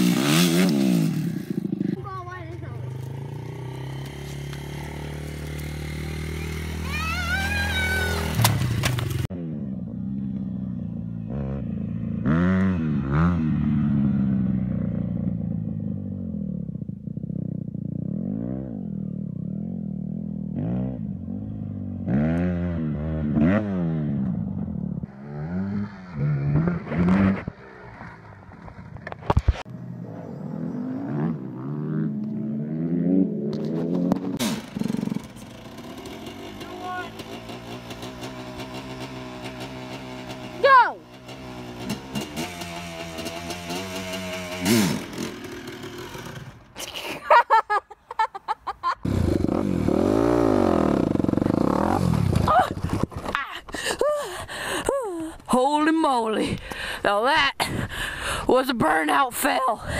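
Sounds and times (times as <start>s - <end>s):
dirt bike revving: 0.0s - 28.8s, 30.0s - 46.7s, 49.0s - 52.5s
small dirt bike running: 0.0s - 46.8s, 49.0s - 54.8s.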